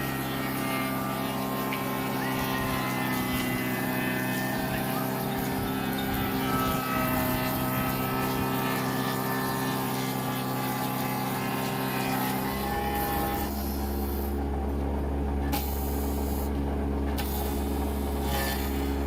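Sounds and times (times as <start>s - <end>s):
deeper hum: 0.0s - 19.0s
machine motor droning whine: 0.0s - 19.0s.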